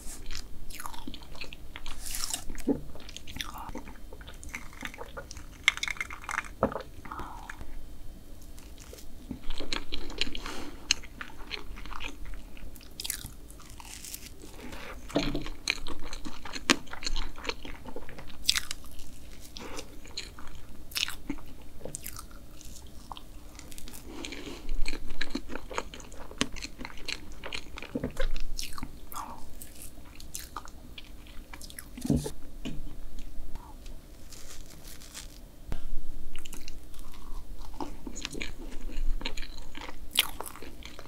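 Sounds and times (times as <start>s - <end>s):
chewing soft cake: 0.0s - 7.6s, 8.4s - 32.4s, 36.3s - 41.0s.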